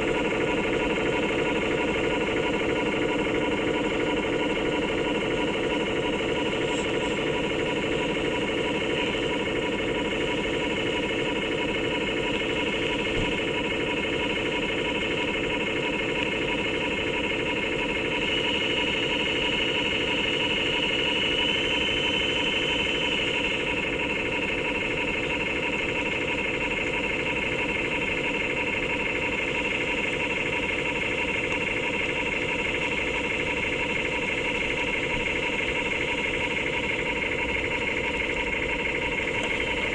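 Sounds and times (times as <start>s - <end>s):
model boat engine sound through speaker: 0.0s - 39.9s.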